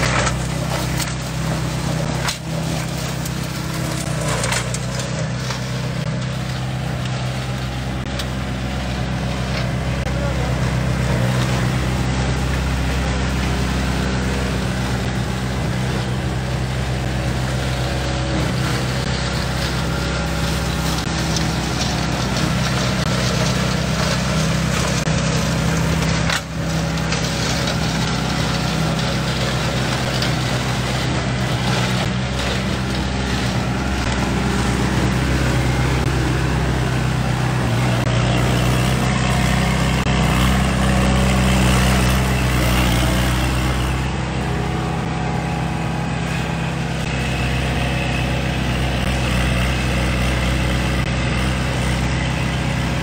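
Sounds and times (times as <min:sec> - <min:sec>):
rotary mower cutting grass: 0:00.0 - 0:53.0
tractor engine running: 0:00.0 - 0:53.0.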